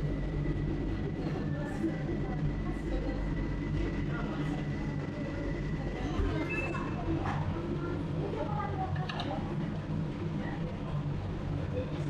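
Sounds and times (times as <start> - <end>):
murmur of voices: 0.0 - 12.0
steady low hum: 0.0 - 12.0.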